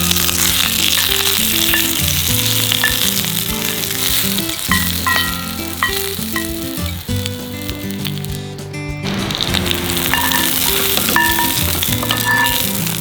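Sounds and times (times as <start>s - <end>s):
background music: 0.0s - 13.0s
steak sizzling: 0.0s - 13.0s.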